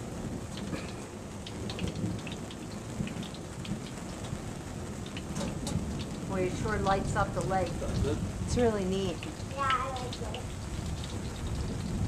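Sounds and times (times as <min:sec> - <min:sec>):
low thunder rumble: 0:00.0 - 0:12.0
raindrop ticks: 0:00.0 - 0:12.0
steady rain falling: 0:00.0 - 0:12.0.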